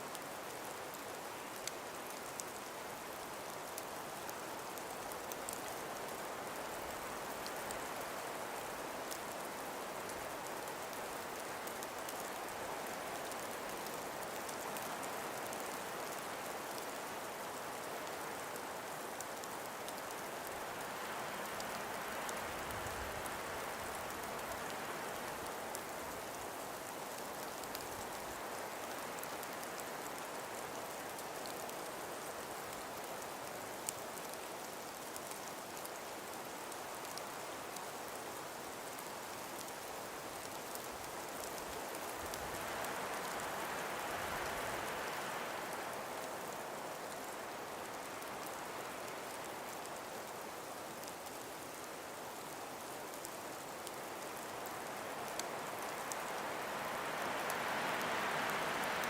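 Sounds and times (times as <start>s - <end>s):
breeze rushing through forest: 0.0s - 59.0s
faint ticks: 0.1s - 59.0s.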